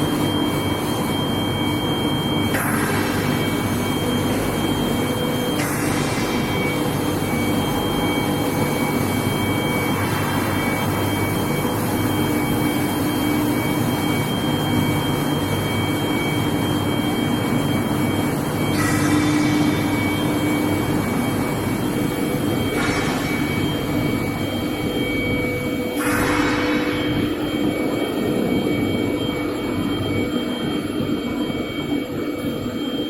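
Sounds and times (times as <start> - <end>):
machine drone with whining tones: 0.0 - 33.0.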